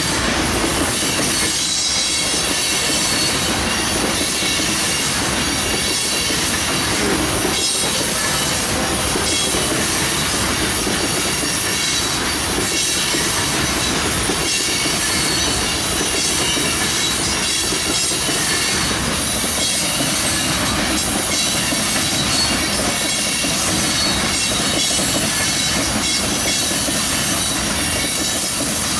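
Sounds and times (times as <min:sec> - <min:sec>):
high wheel squeal: 0:00.0 - 0:28.9
train wheels rumbling on rail: 0:00.0 - 0:28.9.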